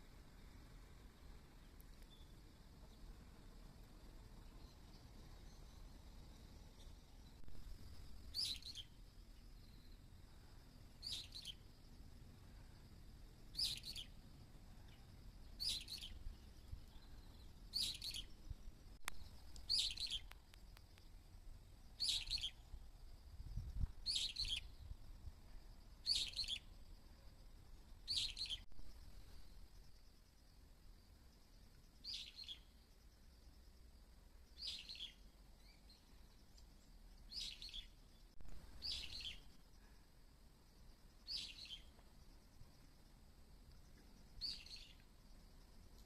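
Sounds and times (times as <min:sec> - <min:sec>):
faint high-pitched hum: 0:00.0 - 0:46.0.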